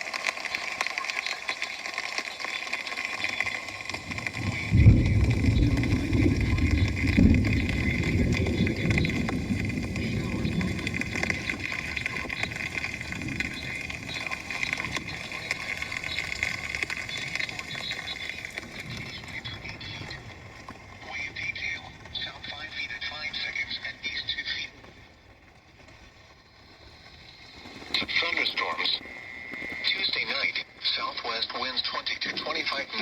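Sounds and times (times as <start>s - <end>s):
rain hissing: 0.0s - 33.0s
thunder crack and rumble: 3.0s - 30.8s.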